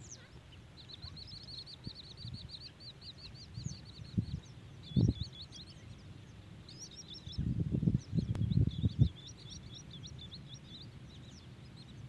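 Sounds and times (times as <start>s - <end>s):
bird chirping rapidly: 0.0s - 12.0s.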